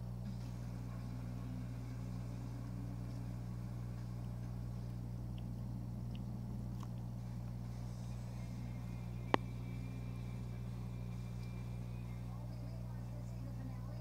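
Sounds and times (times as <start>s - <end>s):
aquarium pump humming: 0.0s - 14.0s.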